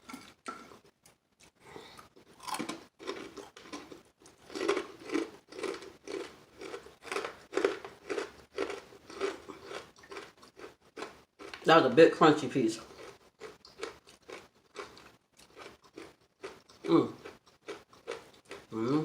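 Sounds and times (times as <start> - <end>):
chewing crispy chicken: 0.0 - 11.7, 12.7 - 19.0.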